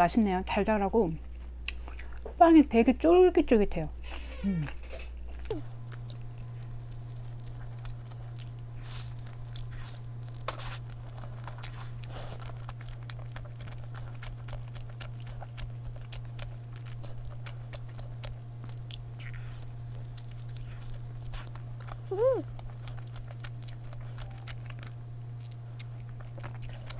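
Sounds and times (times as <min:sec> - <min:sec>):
steady low hum: 0:00.0 - 0:26.9
mouth chewing sounds: 0:01.4 - 0:02.3, 0:04.7 - 0:26.9.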